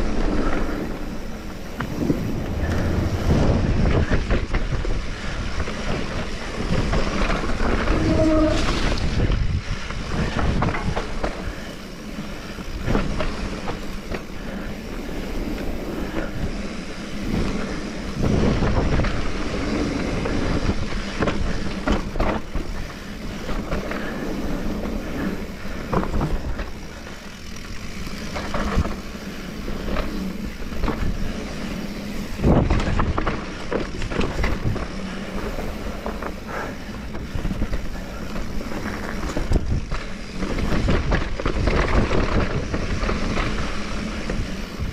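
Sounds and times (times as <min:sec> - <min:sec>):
wind buffeting microphone: 0:00.0 - 0:11.8, 0:12.4 - 0:44.9
bike knocking and rattling: 0:00.0 - 0:44.9
tyres running over dirt: 0:00.0 - 0:44.9.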